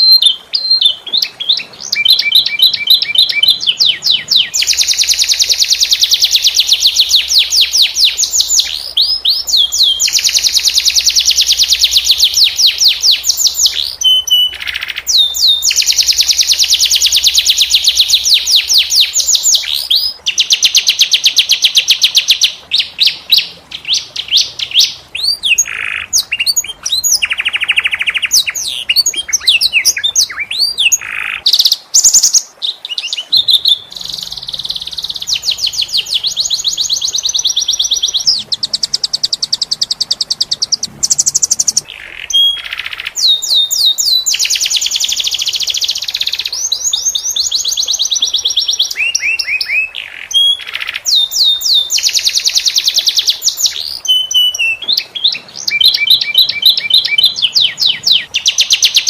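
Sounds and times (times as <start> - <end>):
canary singing trills and whistles: 0.0 - 59.0.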